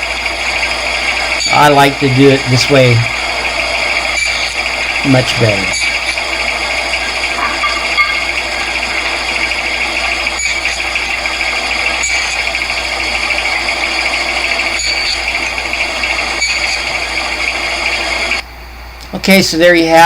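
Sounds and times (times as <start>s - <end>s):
bandsaw running: 0.0s - 18.4s.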